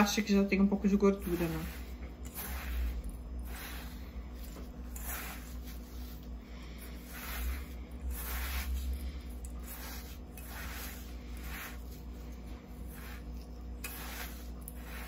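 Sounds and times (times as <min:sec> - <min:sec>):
crumbly rustling scrape in bowl: 0:00.0 - 0:15.0
steady low hum: 0:00.0 - 0:15.0.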